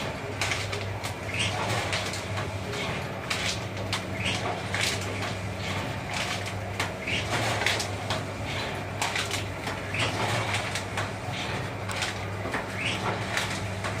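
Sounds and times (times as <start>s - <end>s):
machine electric hum: 0.0s - 14.0s.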